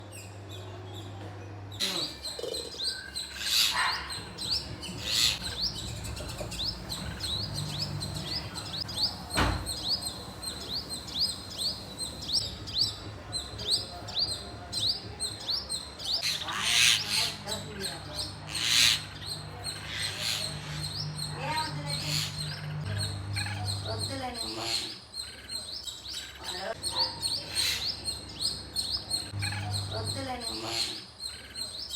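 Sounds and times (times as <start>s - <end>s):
pet birds chirping: 0.1s - 31.9s.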